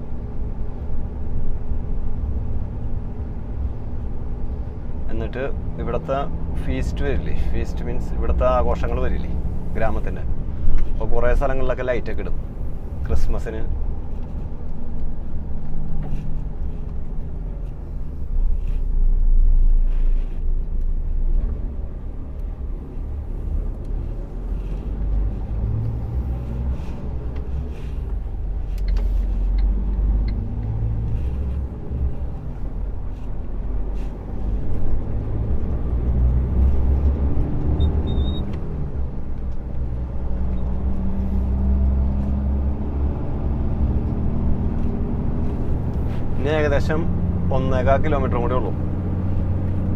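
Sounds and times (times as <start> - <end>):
road rumble: 0.0 - 49.9
truck diesel engine: 0.0 - 49.9.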